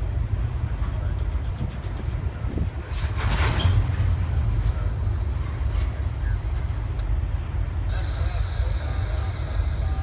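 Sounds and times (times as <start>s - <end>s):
freight train rolling on rails: 0.0s - 10.0s.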